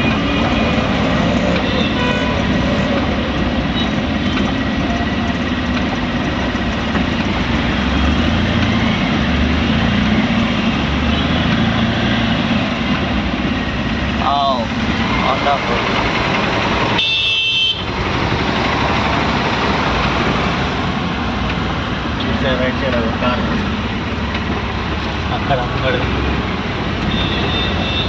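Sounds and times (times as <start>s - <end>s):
vehicle engines running: 0.0s - 28.0s.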